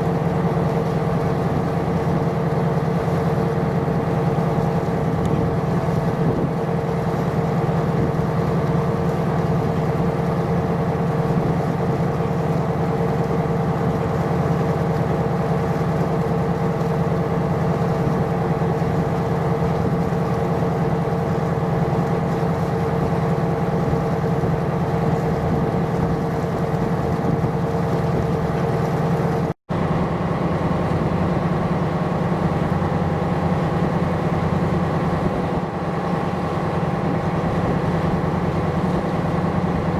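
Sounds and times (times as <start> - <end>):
constant machinery hum: 0.0 - 39.9
ship engine drone: 0.0 - 39.9.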